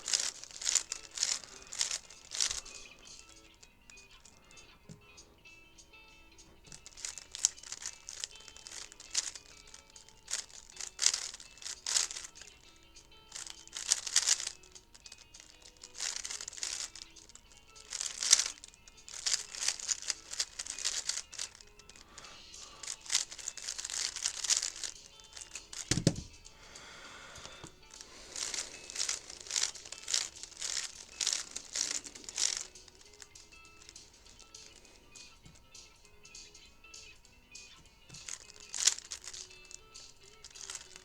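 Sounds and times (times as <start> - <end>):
puzzle cube plastic clicking: 0.0 - 5.2, 6.3 - 41.0.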